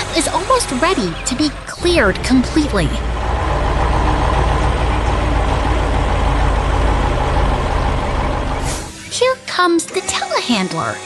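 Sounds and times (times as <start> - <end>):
heavy machine engine running: 0.0 - 9.3.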